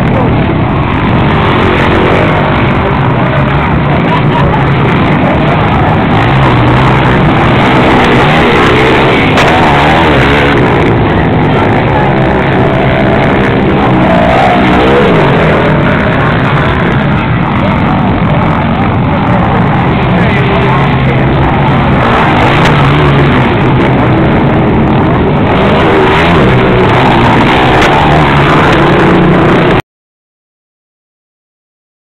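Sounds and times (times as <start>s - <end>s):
dirt bike engines revving: 0.0s - 29.8s.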